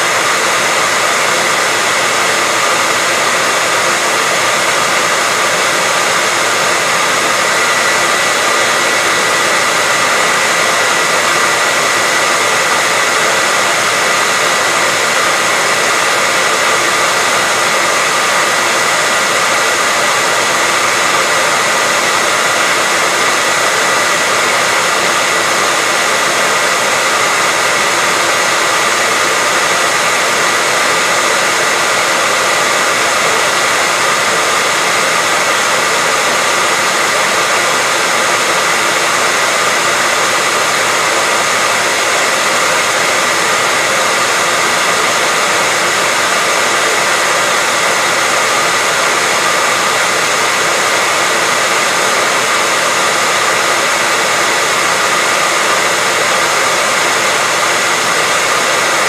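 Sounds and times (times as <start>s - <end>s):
hairdryer blowing: 0.0s - 59.0s.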